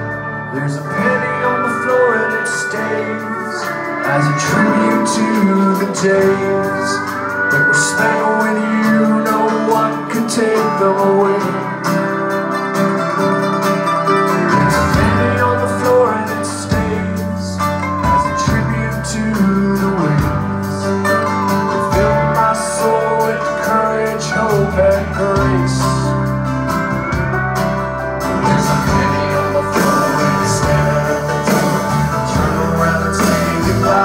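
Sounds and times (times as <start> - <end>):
pop-rock band playing: 0.0 - 34.0.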